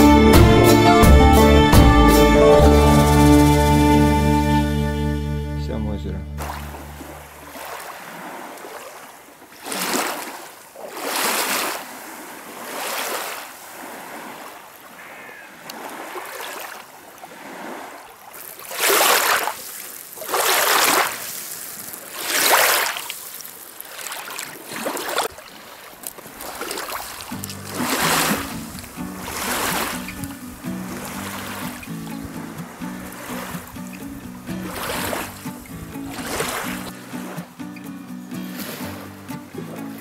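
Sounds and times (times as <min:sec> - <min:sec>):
waves washing and splashing: 0:02.0 - 0:04.6, 0:06.4 - 0:40.0.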